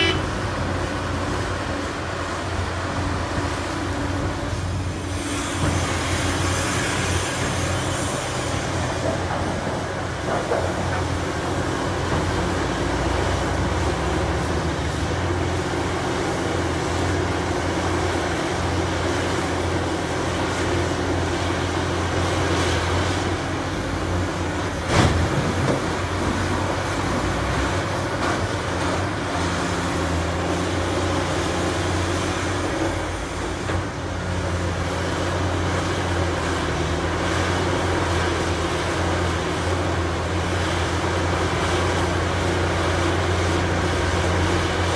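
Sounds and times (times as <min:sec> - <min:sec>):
excavator diesel engine humming: 0:00.0 - 0:44.9.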